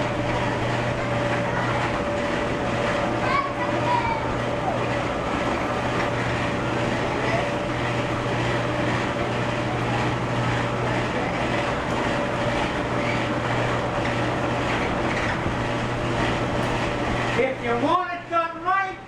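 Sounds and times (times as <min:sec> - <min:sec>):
machinery rumble: 0:00.0 - 0:19.0.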